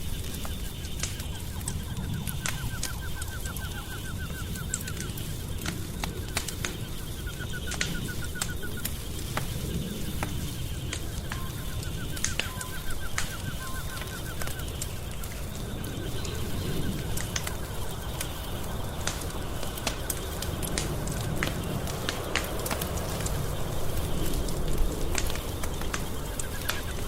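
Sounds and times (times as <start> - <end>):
fire crackling pops and snaps: 0.0 - 27.0
low fire rumble: 0.0 - 27.0.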